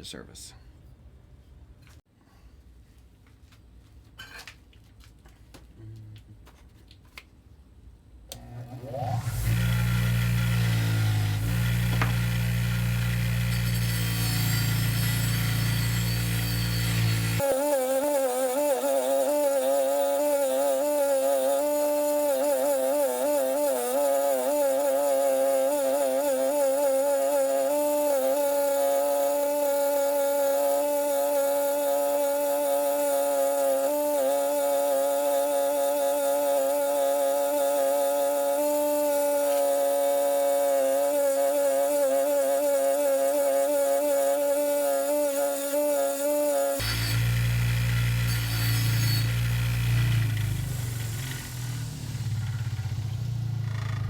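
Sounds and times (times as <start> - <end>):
buffing wheel motor humming: 8.3 - 54.0.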